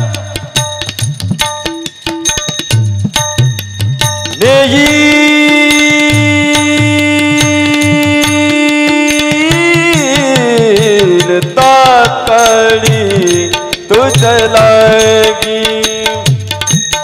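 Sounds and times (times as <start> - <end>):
mridang and tabla strokes: 0.0 - 17.0
person singing devotional melody: 0.0 - 17.0.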